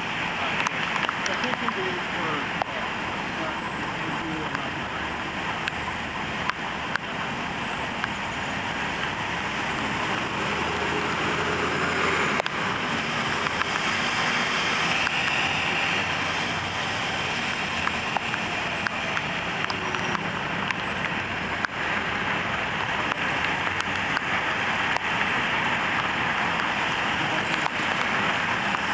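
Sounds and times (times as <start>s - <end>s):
traffic: 0.0s - 28.9s.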